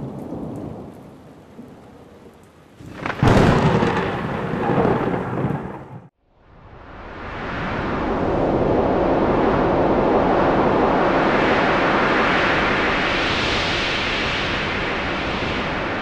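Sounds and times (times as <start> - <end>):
rain: 0.0 - 6.1, 9.0 - 16.0
wind: 0.0 - 16.0.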